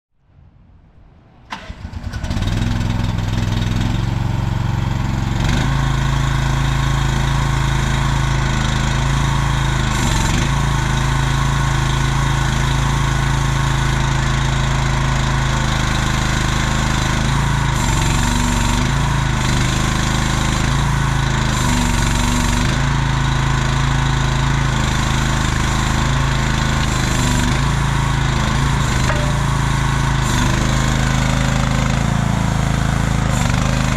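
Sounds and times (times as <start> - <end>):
excavator engine idling: 2.6 - 33.9.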